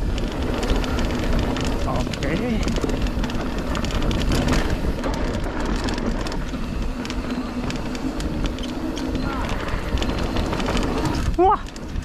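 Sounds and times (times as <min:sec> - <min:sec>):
bike clicks and rattles: 0:00.0 - 0:12.0
bike tyres crunching over dirt: 0:00.0 - 0:12.0
wind buffeting microphone: 0:00.0 - 0:12.0.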